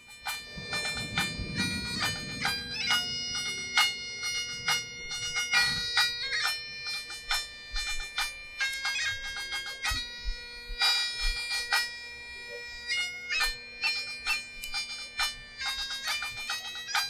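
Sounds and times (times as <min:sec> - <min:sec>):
bagpipe playing: 0:00.0 - 0:17.0.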